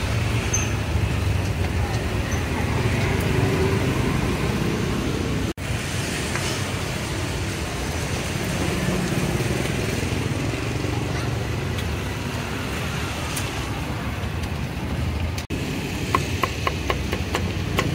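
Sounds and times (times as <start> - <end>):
motor vehicles passing: 0.0 - 17.9.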